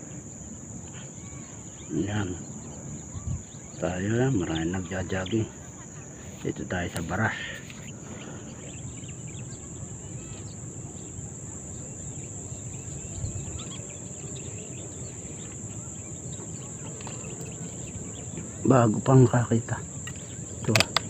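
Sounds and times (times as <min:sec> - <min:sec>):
faint chirps: 0:00.0 - 0:21.0
insects trilling: 0:00.0 - 0:21.0.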